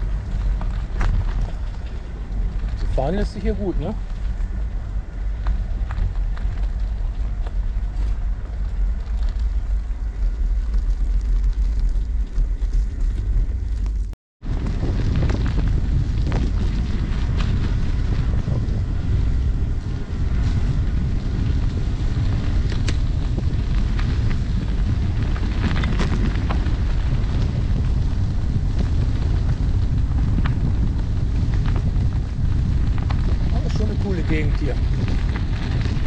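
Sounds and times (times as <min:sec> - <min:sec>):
bike clicks and rattles on gravel: 0:00.0 - 0:36.0
wind buffeting microphone: 0:00.0 - 0:36.0.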